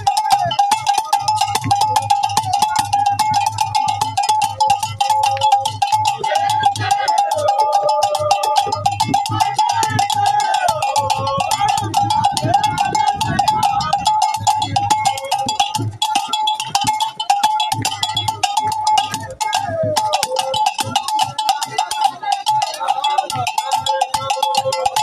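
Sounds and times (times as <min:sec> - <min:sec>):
crowd singing: 0:00.0 - 0:25.0
metal bell ringing: 0:00.0 - 0:25.0.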